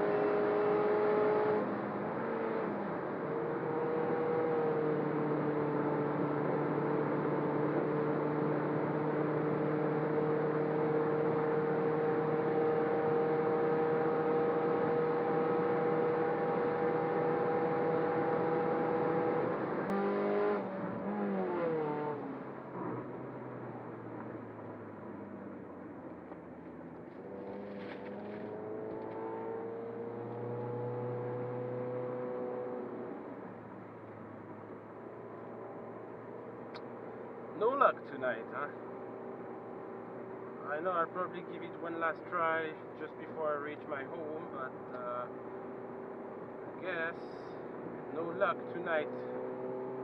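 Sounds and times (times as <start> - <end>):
car engine at high revs: 0.0 - 50.0.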